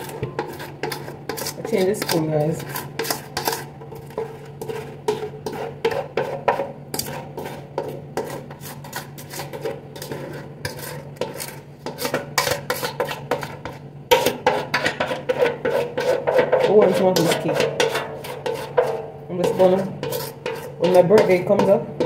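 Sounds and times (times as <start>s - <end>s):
spoon scraping metal bowl: 0.0s - 22.0s.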